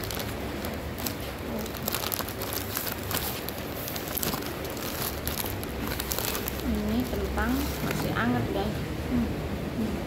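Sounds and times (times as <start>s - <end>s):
food wrapper crinkling: 0.0s - 8.4s.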